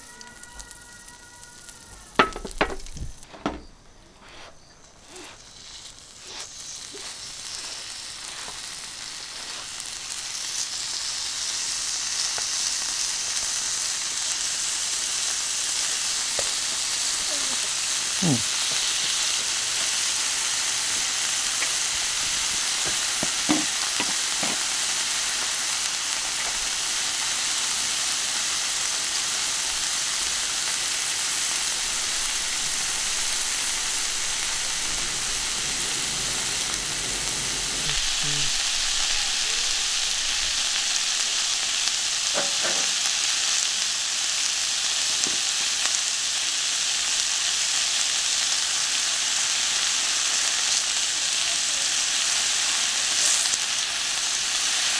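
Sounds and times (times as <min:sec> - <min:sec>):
beef sizzling on griddle: 0:00.0 - 0:54.9.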